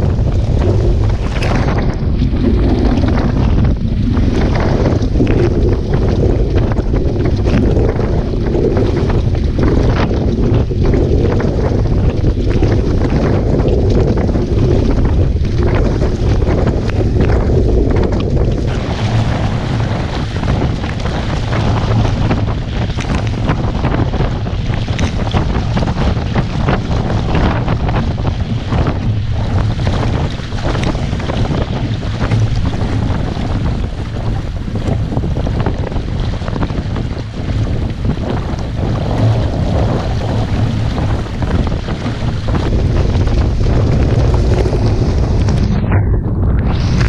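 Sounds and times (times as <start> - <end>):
water splashing along hull: 0.0 - 47.0
wind buffeting microphone: 0.0 - 47.0.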